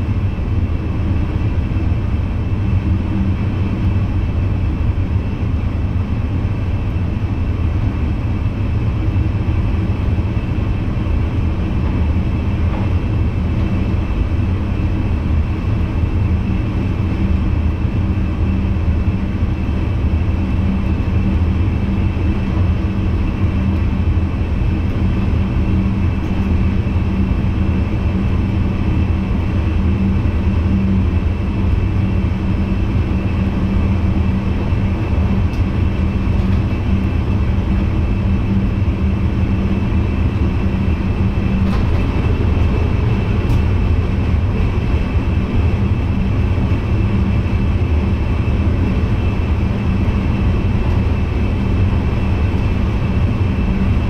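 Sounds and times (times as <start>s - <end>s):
steady hum: 0.0s - 54.0s
train low rumble: 0.0s - 54.0s.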